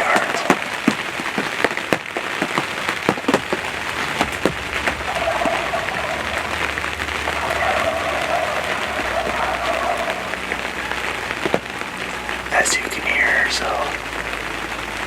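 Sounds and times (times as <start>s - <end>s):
rain patter: 0.0s - 15.0s
raindrops striking sharply: 0.0s - 15.0s.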